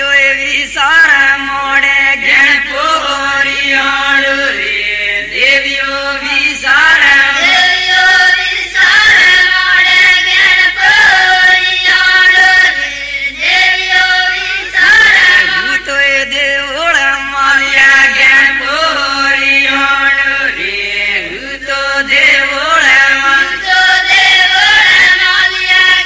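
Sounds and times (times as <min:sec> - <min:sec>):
group singing folk song: 0:00.0 - 0:26.0.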